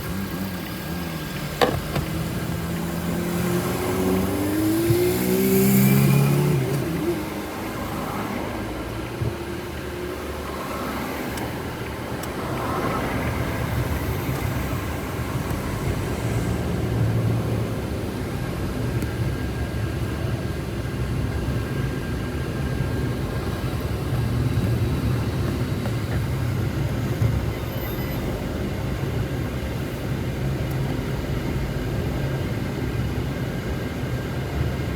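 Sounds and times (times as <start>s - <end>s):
engine humming: 0.0s - 34.9s.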